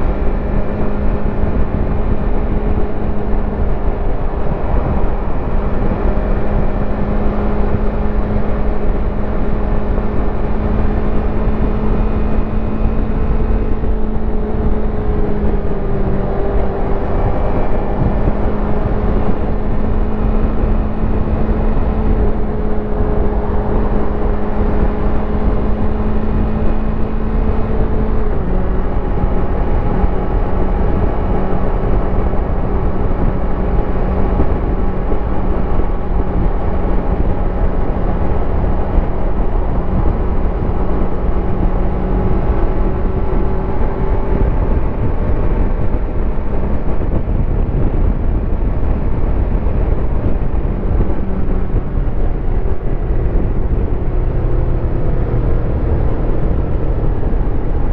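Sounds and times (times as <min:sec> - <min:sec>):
motorcycle engine cruising: 0:00.0 - 0:57.9
wind and road noise: 0:00.0 - 0:57.9.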